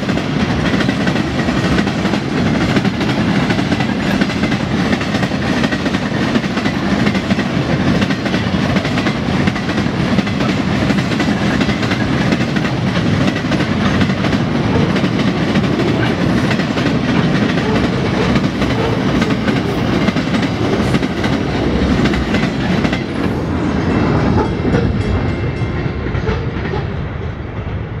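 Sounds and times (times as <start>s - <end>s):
clickety-clack over rail joints: 0.0s - 27.9s
freight train wheels rumbling: 0.0s - 28.0s.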